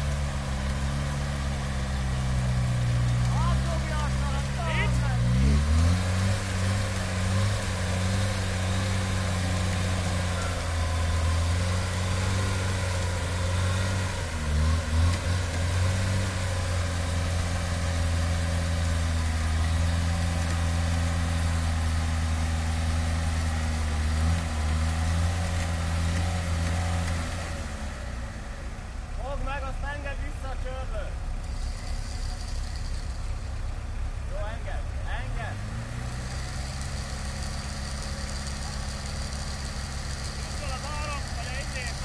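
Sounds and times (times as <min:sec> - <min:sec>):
car engine running at raised revs: 0:00.0 - 0:42.0.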